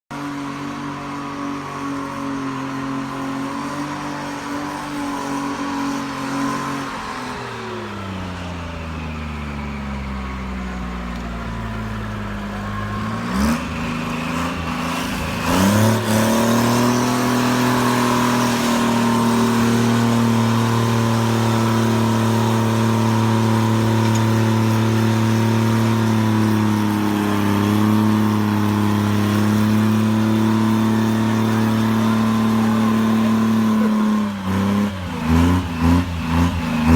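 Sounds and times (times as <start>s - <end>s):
heavy machine engine running: 0.3s - 36.9s.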